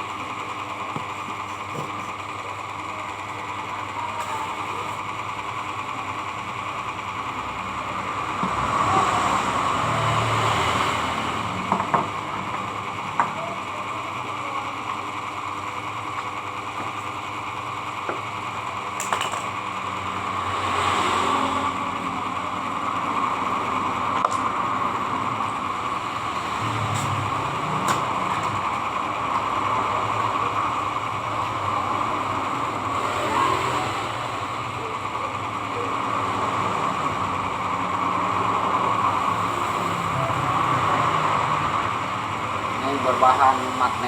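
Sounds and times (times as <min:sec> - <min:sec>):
sharpening disc motor running: 0:00.0 - 0:44.0.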